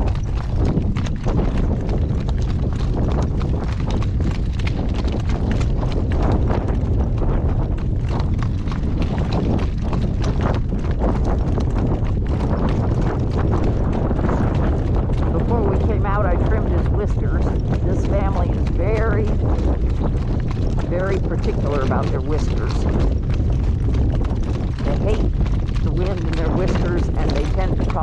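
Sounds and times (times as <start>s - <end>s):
horse hooves clip-clopping: 0.0s - 28.0s
low rumble: 0.0s - 28.0s.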